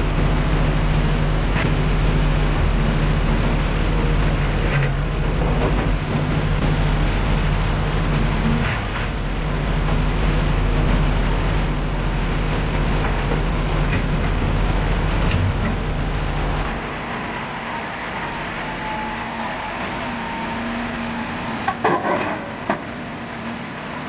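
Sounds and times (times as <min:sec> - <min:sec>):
broad rushing noise: 0:00.0 - 0:24.0
diesel engine running: 0:00.0 - 0:24.0.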